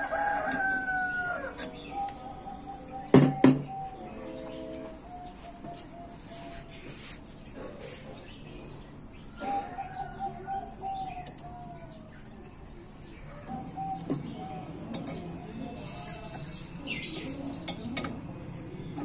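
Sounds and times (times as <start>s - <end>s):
dove cooing: 0.0s - 7.0s, 9.3s - 18.3s.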